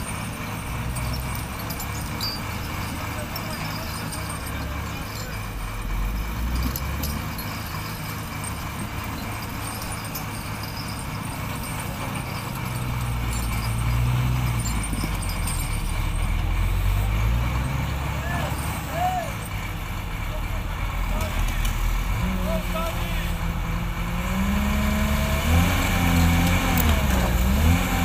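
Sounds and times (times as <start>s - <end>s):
diesel engines rumbling: 0.0s - 28.0s.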